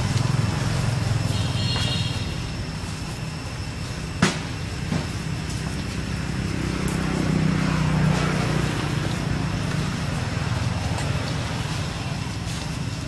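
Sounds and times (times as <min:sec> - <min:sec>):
passing motor vehicle engine hum: 0:00.0 - 0:13.0.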